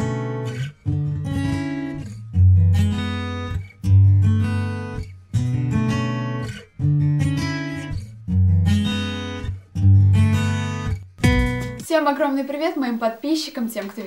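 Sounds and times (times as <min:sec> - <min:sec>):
acoustic guitar strumming chords: 0:00.0 - 0:11.8.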